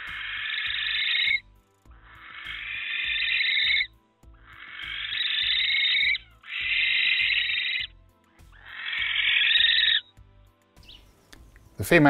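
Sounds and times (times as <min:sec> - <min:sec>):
barn owl screeching: 0:00.0 - 0:10.2.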